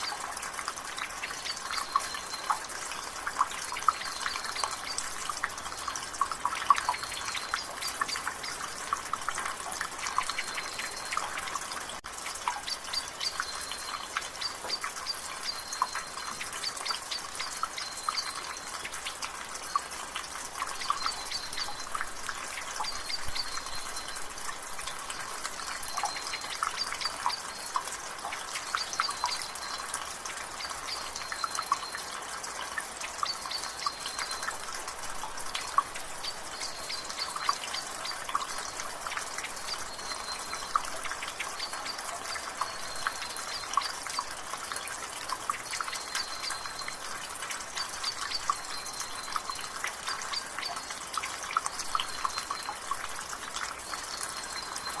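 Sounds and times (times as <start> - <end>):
light rain: 0.0 - 55.0
water dripping from a rain gutter: 0.0 - 55.0.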